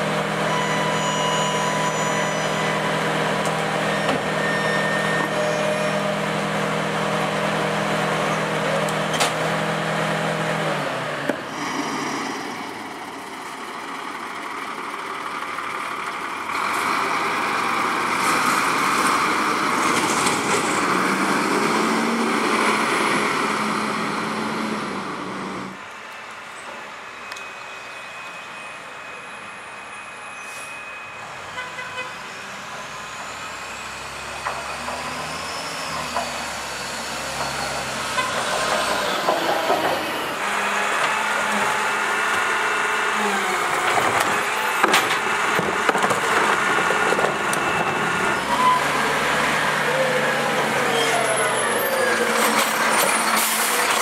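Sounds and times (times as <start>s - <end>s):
garbage truck diesel engine: 0.0s - 54.0s.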